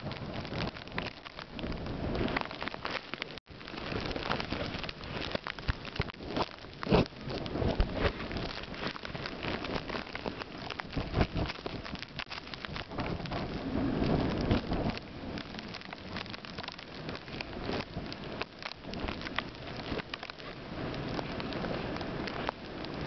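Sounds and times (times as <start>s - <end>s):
crackle of blowing snow: 0.0s - 23.0s
wind gusting over microphone: 0.0s - 23.0s.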